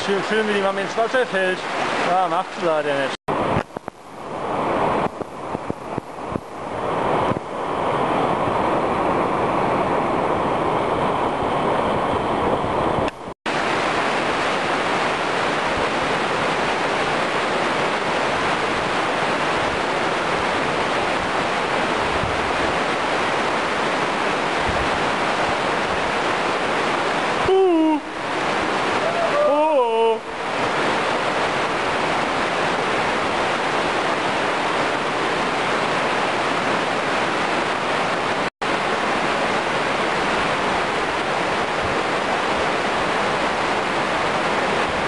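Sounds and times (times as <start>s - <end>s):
river rushing over rocks: 0.0s - 45.0s.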